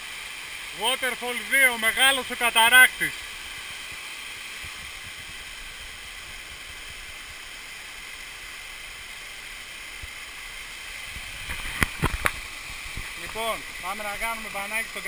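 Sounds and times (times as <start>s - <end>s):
waterfall pouring over rocks: 0.0s - 15.0s.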